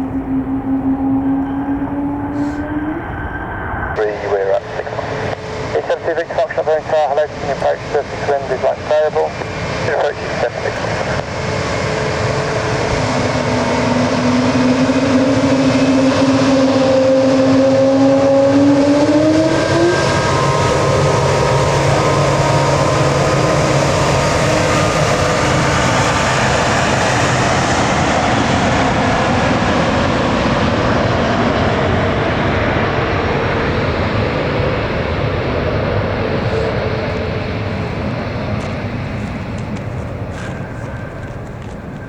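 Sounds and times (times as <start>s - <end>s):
jet engine rumble: 0.0s - 42.0s
jet engine whine: 0.0s - 42.0s.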